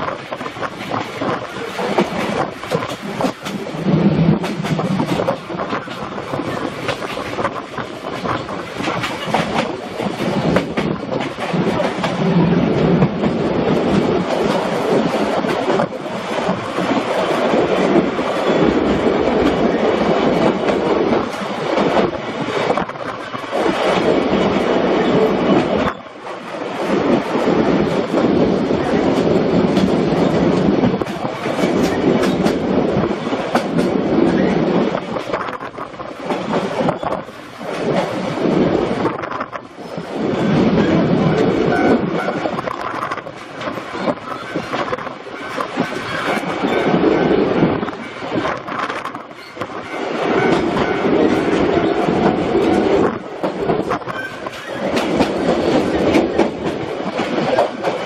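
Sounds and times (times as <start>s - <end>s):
train rolling rumble: 0.0s - 58.0s
wheels clicking over rail joints: 0.0s - 58.0s.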